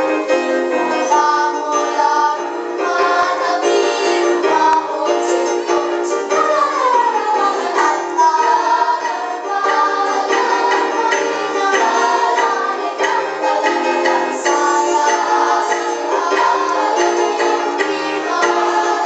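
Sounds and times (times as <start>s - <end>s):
children's choir singing: 0.0s - 19.0s
rhythmic instrumental accompaniment: 0.0s - 19.0s.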